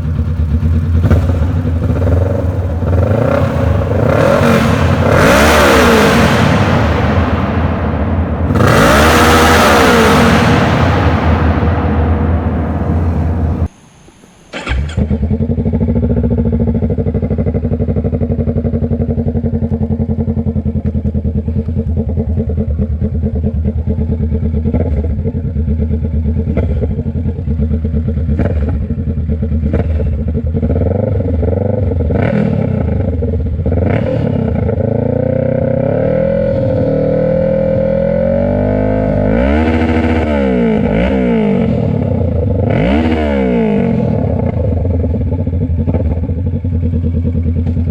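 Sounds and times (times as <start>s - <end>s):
motorcycle engine idling and revving: 0.0s - 13.7s, 14.5s - 47.9s.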